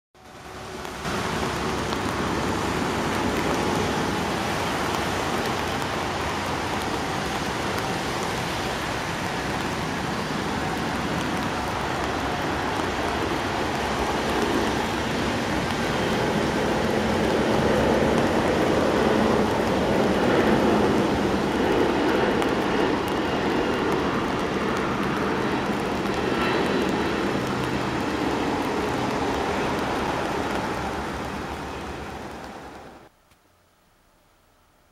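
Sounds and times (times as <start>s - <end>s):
jet engines roaring: 0.4s - 33.1s.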